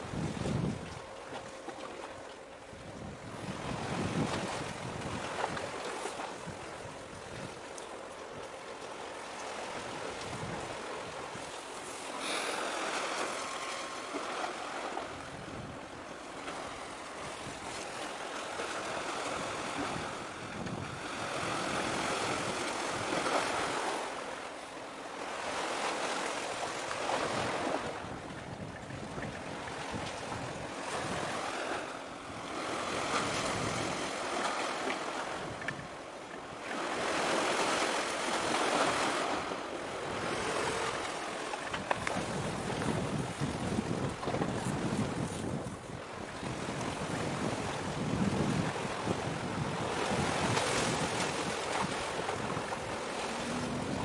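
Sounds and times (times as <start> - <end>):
wind on microphone: 0.0 - 24.4, 25.2 - 54.0
waves washing against shore: 0.0 - 54.0.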